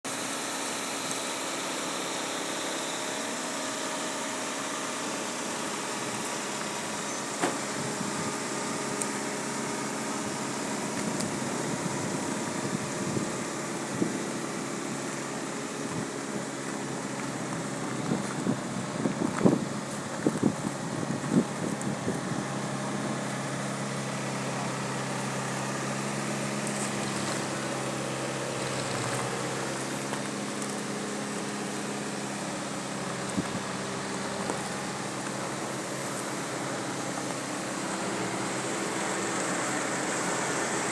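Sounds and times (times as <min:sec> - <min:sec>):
quad bike engine idling: 0:00.1 - 0:40.9.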